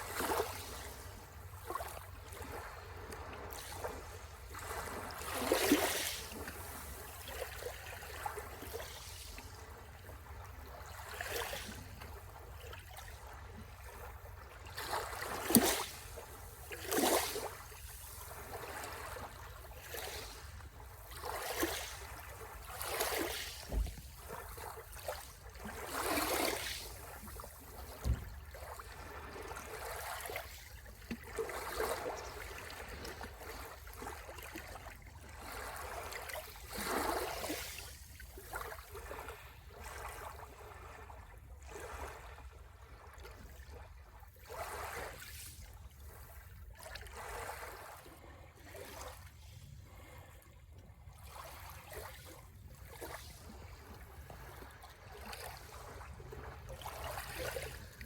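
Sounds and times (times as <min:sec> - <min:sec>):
small waves washing on shore: 0:00.0 - 0:58.0.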